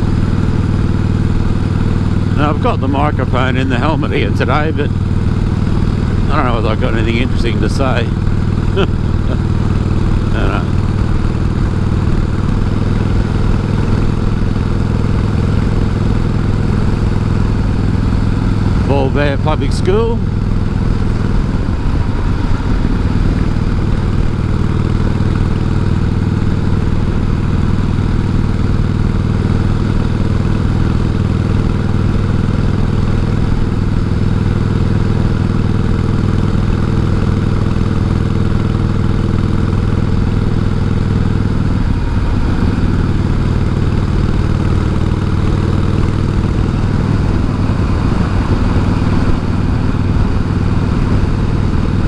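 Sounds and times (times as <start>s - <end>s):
motorcycle engine running: 0.0s - 52.0s
wind noise in helmet microphone: 8.1s - 52.0s.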